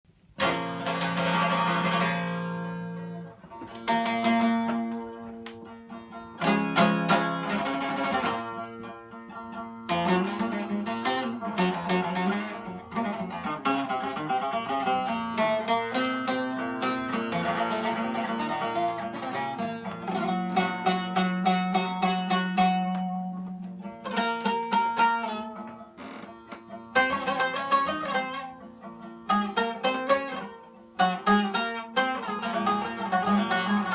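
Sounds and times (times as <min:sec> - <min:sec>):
plucked and strummed lute: 0:00.1 - 0:33.9.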